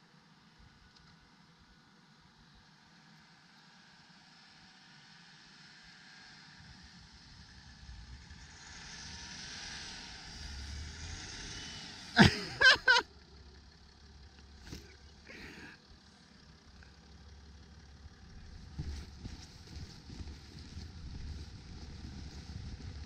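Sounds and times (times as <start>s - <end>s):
engine driving through snow: 4.0s - 23.0s.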